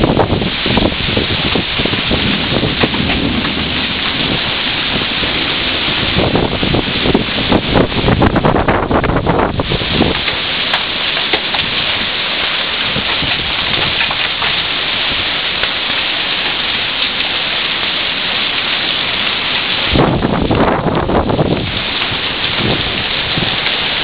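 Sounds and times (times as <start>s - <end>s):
wind buffeting microphone: 0.0s - 15.8s, 19.6s - 24.0s
heavy rain and hail on concrete: 0.0s - 24.0s.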